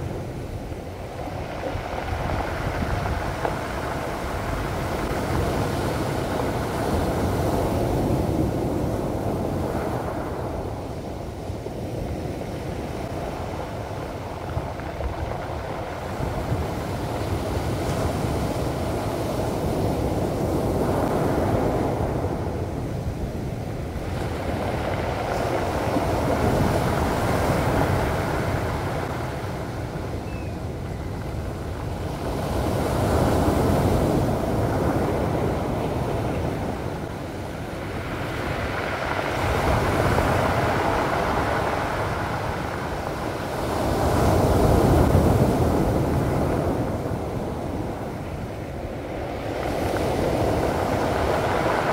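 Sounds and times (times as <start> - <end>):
waves breaking on pebble beach: 0.0 - 51.9.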